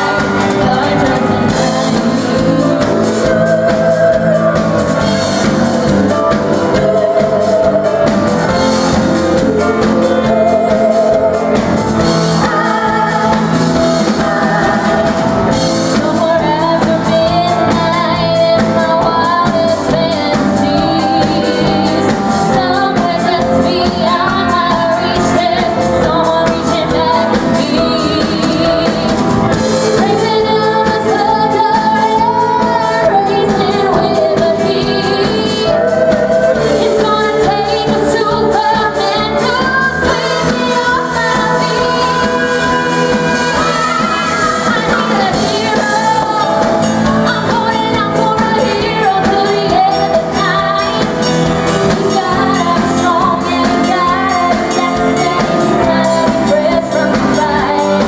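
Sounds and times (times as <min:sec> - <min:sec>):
person singing: 0:00.0 - 0:58.0
pop-rock band playing: 0:00.0 - 0:58.0.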